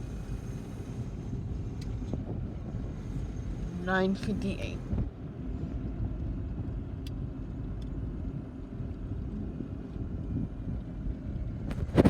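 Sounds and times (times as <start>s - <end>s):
vehicle rumbling: 0.0s - 12.0s.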